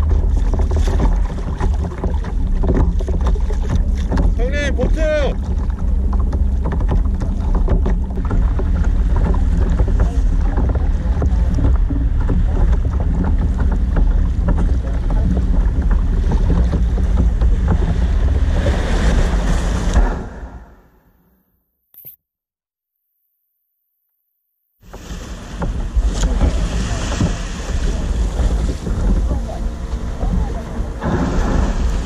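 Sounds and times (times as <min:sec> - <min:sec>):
water splashing against kayak hull: 0:00.0 - 0:20.7, 0:24.8 - 0:32.0
wind rumble on microphone: 0:00.0 - 0:20.7, 0:24.8 - 0:32.0
surf breaking: 0:00.0 - 0:20.8, 0:24.8 - 0:32.0.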